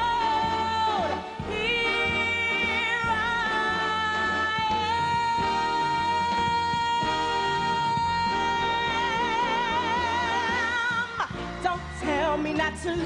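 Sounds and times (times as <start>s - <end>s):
live band instrumental music: 0.0s - 13.0s.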